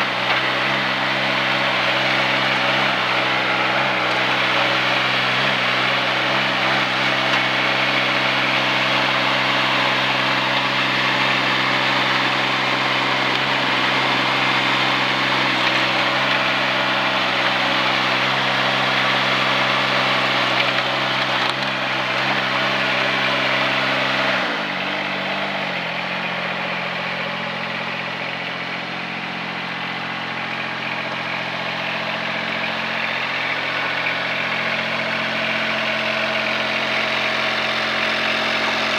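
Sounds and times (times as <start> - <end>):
small excavator engine running: 0.0 - 38.9.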